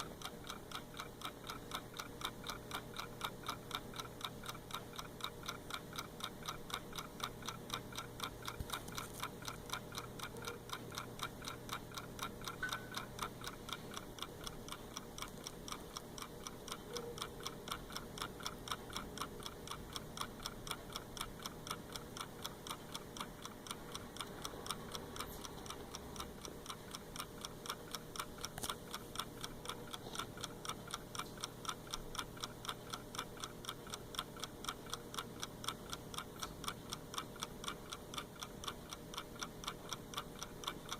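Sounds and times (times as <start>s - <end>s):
mechanical clock ticking: 0.0s - 40.9s.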